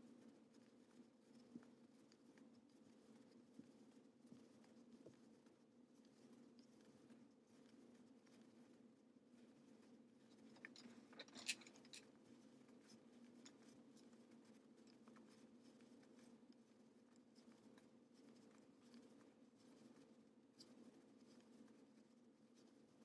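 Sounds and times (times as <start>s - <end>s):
faint room hum: 0.0s - 23.0s.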